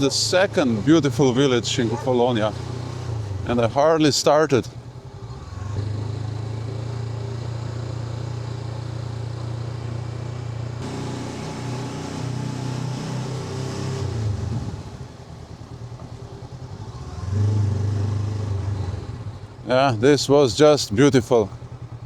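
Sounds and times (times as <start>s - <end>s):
motorcycle engine while riding: 0.0s - 22.0s.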